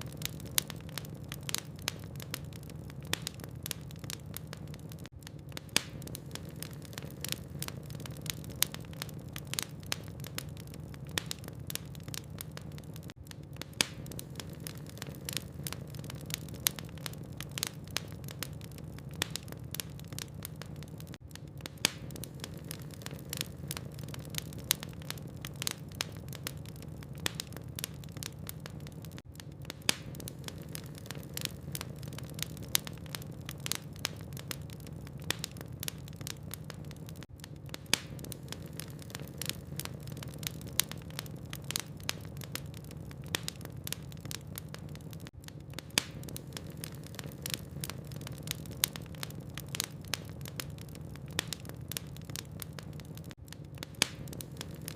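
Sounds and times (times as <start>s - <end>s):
logs crackling in fireplace: 0.0s - 54.9s.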